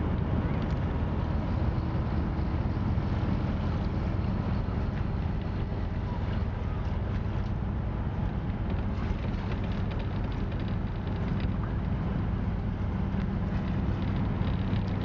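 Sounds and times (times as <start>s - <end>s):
ship diesel engine drone: 0.0s - 15.0s
water along hull: 0.0s - 15.0s
wind on microphone: 0.0s - 15.0s.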